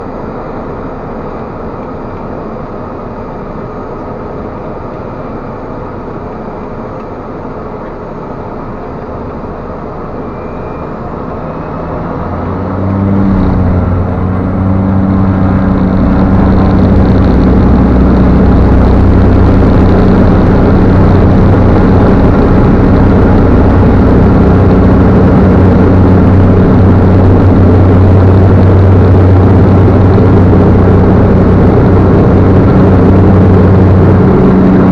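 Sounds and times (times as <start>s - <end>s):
high engine whine: 0.0s - 34.9s
turboprop engine running: 0.0s - 34.9s.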